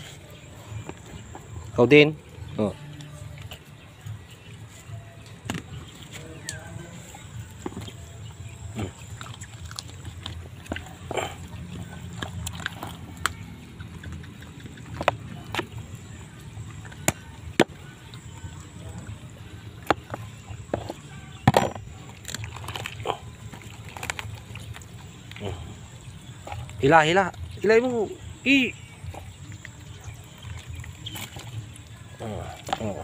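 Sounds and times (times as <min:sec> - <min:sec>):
wet squelching of entrails: 0:05.9 - 0:33.0.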